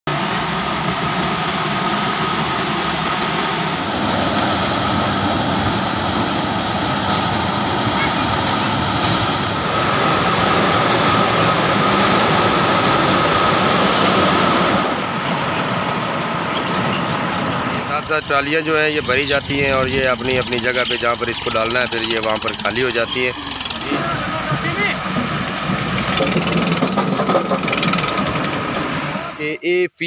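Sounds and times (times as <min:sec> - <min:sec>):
high machine whine: 0:00.1 - 0:25.0
harvester engine and machinery: 0:00.1 - 0:30.0.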